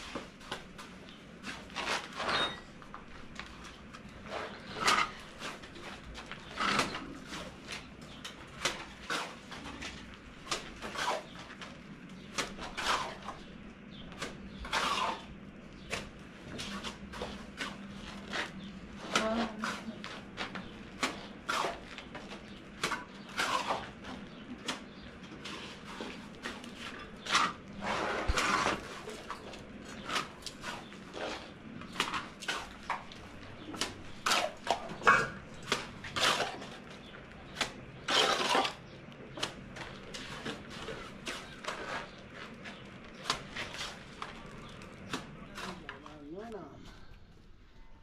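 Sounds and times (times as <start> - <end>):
tool scraping on cement: 0.0 - 2.7, 3.5 - 11.7, 12.3 - 13.5, 14.1 - 46.0.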